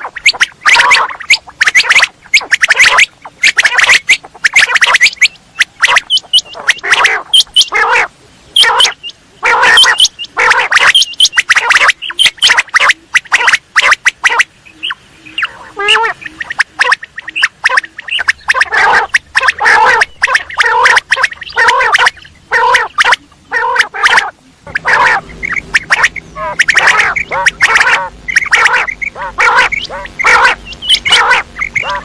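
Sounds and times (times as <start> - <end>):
quail chattering calls: 0.0 - 32.0.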